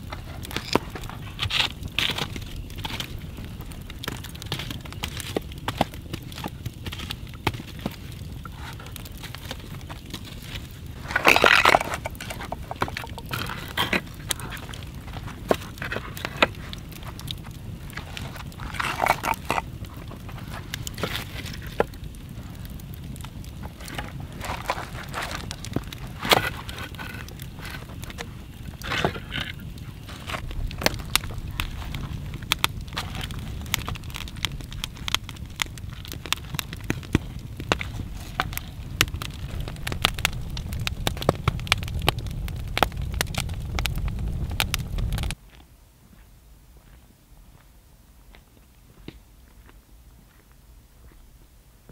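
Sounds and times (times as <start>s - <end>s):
sharp pops from fire: 0.0s - 45.4s
low rumble of flames: 0.0s - 45.6s
wood fire crackling: 0.0s - 45.6s.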